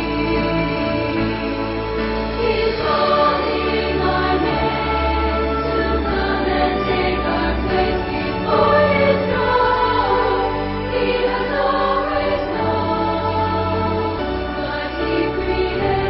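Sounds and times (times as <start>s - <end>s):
choir singing held notes: 0.0s - 16.0s.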